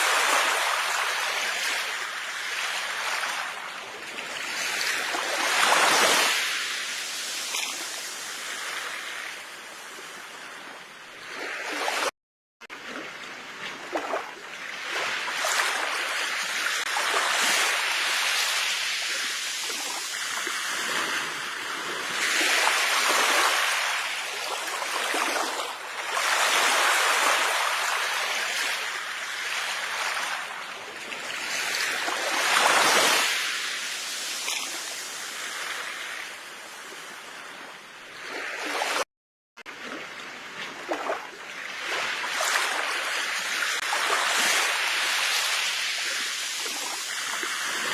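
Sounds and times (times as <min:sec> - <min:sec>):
sea waves washing onto shore: 0:00.0 - 0:37.6, 0:39.6 - 0:47.9.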